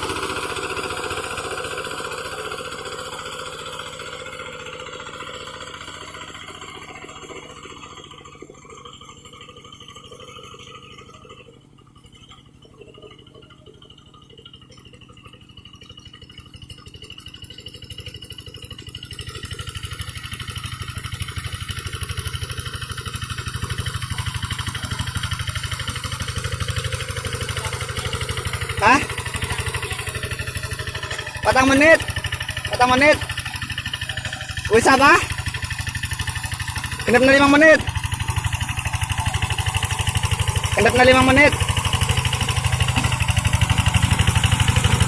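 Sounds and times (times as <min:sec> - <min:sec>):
diesel engine running under load: 0:00.0 - 0:45.0.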